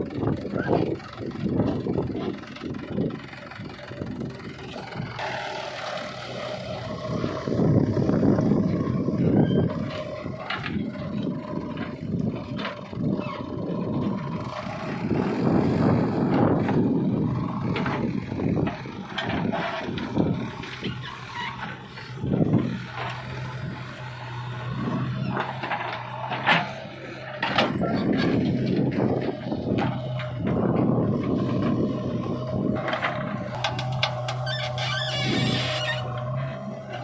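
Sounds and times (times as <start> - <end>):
backhoe diesel engine working: 0.0 - 37.0.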